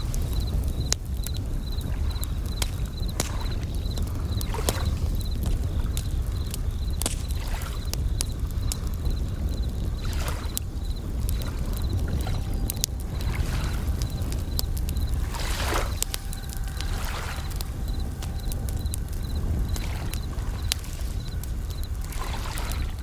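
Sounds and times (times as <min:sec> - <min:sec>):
crickets chirping: 0:00.0 - 0:23.0
low surf rumble: 0:00.0 - 0:23.0
waves washing in: 0:00.0 - 0:23.0
wood fire crackling: 0:00.0 - 0:23.0.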